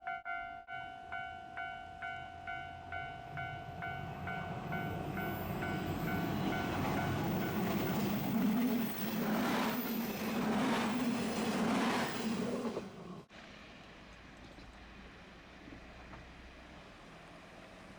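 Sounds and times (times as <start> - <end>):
diesel train passing: 0.1 - 17.9.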